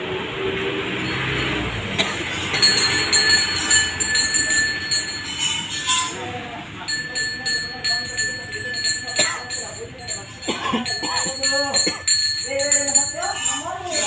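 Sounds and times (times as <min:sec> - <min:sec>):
bells jingling: 0:00.9 - 0:14.0
steady high tone: 0:02.4 - 0:14.0.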